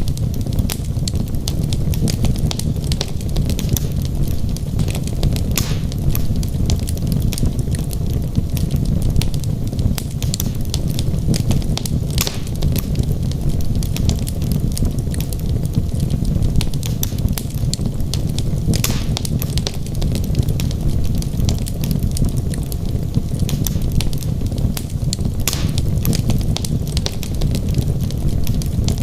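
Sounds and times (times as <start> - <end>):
fire crackling: 0.0 - 29.0
loud pops of burning logs: 0.0 - 29.0
low rumble of flame: 0.0 - 29.0.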